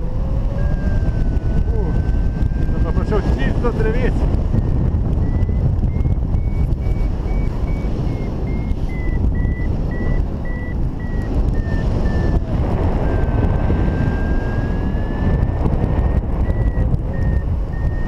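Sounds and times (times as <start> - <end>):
variometer beeping: 0.0 - 18.0
wind rush on microphone: 0.0 - 18.0.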